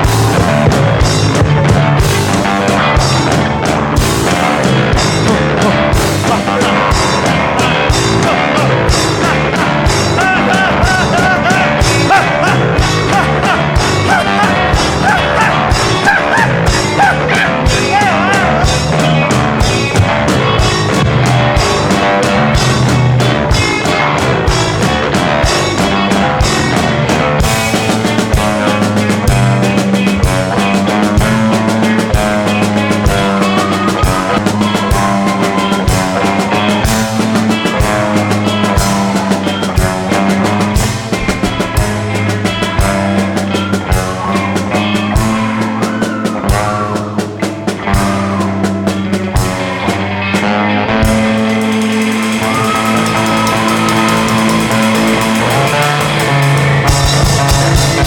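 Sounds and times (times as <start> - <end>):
rock band playing: 0.0 - 58.0
wavering lead melody: 0.0 - 58.0.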